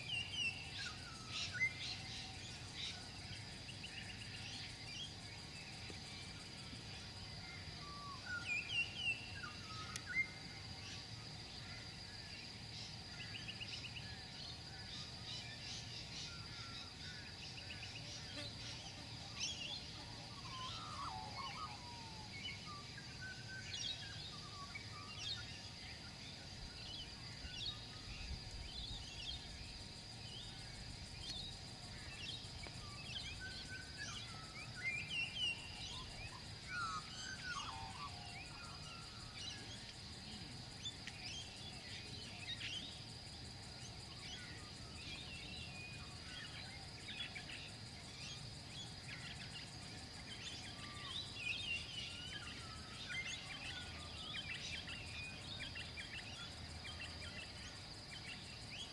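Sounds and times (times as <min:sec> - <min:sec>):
high-pitched insect drone: 0:00.0 - 0:58.9.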